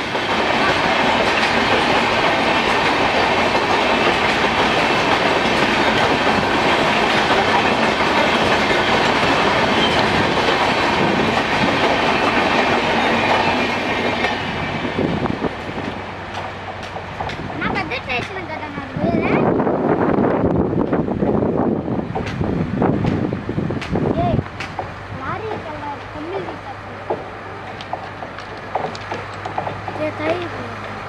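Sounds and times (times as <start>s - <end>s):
train wheels clickety-clack: 0.0s - 21.0s, 21.9s - 31.0s.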